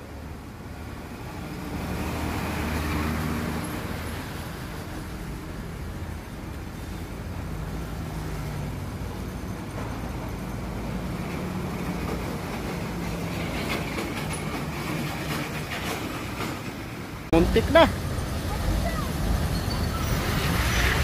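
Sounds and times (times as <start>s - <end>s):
diesel truck engine passing: 0.0s - 13.5s, 17.3s - 21.0s.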